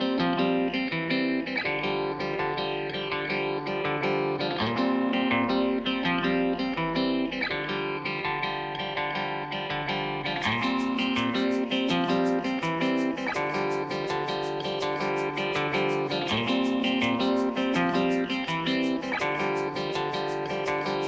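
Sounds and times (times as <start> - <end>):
plucked guitar music: 0.0 - 21.0.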